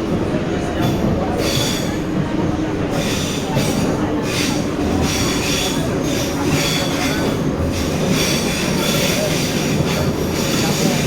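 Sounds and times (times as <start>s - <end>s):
train rumble inside car: 0.0s - 11.0s.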